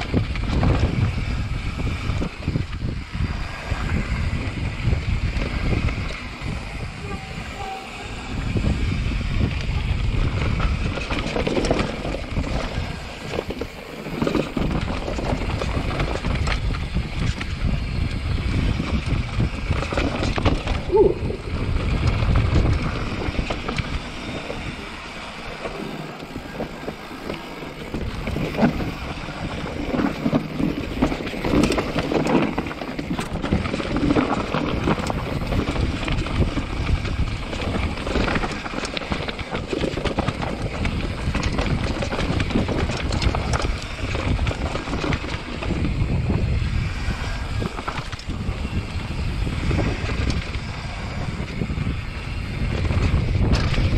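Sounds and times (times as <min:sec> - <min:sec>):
bike tyres rolling over rock: 0:00.0 - 0:53.9
wind on the microphone: 0:00.0 - 0:53.9.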